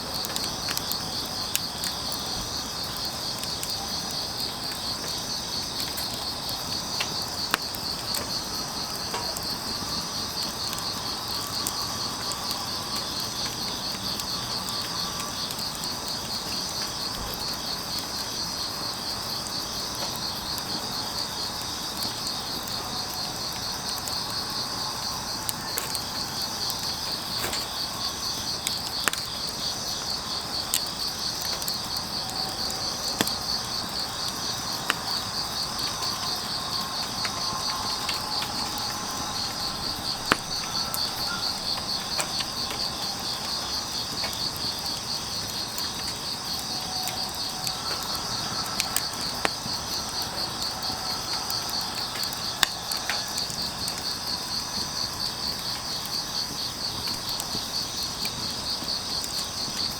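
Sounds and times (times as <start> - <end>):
burning firewood crackling: 0.0 - 59.9
insects chirping: 0.0 - 59.9.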